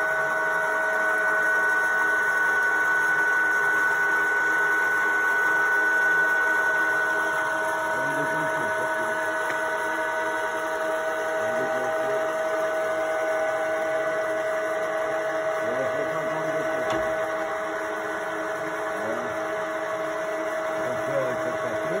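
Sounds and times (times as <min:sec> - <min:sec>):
pillar drill humming and whining: 0:00.0 - 0:22.0.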